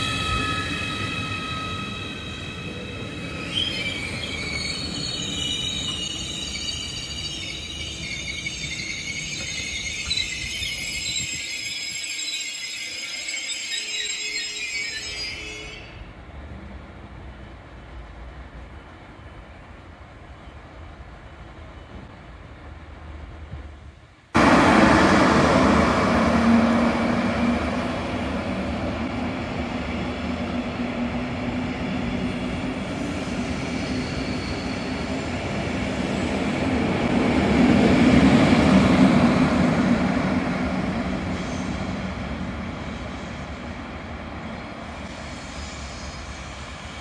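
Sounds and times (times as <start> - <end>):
electric train passing: 0.0 - 47.0.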